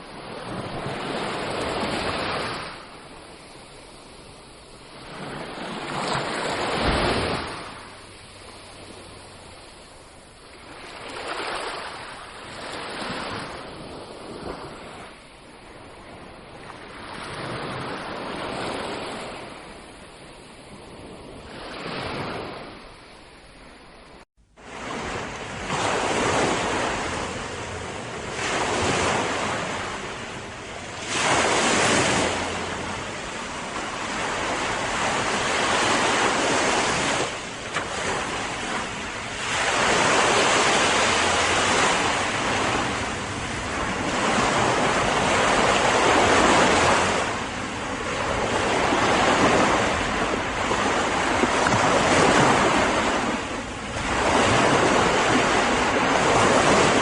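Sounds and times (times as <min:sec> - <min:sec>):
ocean waves breaking on beach: 0:00.0 - 0:57.0
wind on microphone: 0:00.0 - 0:57.0.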